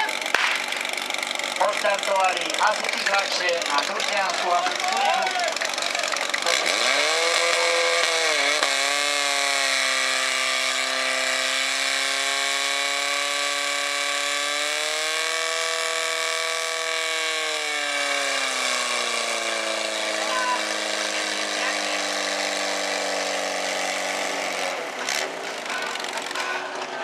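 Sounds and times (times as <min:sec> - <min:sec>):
fire pump engine revving: 0:00.0 - 0:27.0.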